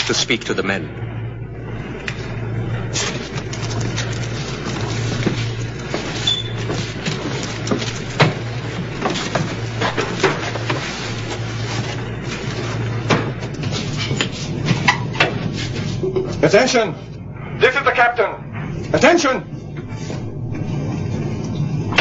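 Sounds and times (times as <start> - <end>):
steady noise: 0.0 - 6.2, 6.8 - 22.0
machinery hum: 0.0 - 22.0.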